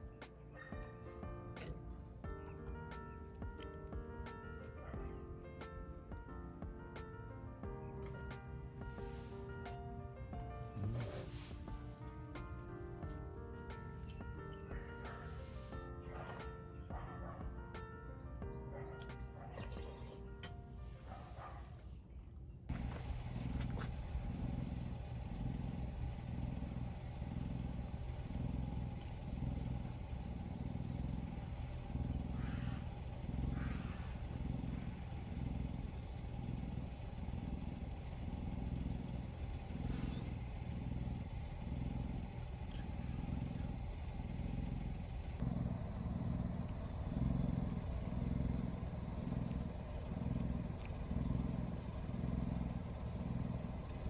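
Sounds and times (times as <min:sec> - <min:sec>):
engine pulsing rumble: 0:00.0 - 0:54.0.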